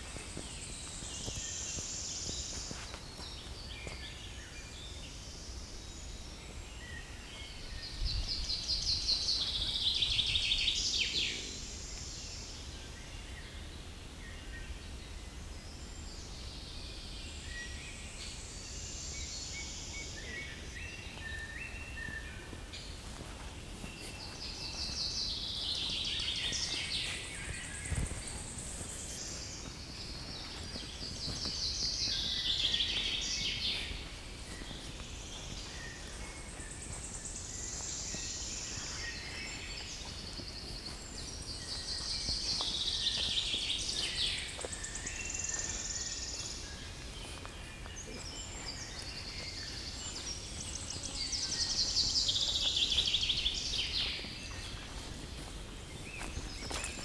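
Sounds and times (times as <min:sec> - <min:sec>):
forest background hiss: 0:00.0 - 0:57.0.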